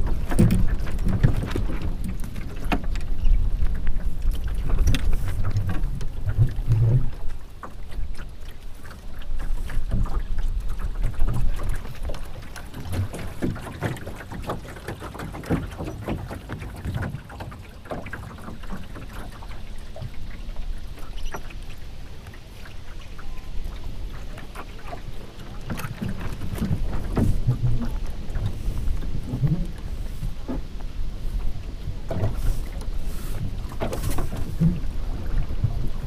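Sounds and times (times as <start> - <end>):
water lapping against boat hull: 0.0 - 36.0
wind rumble on microphone: 0.0 - 36.0.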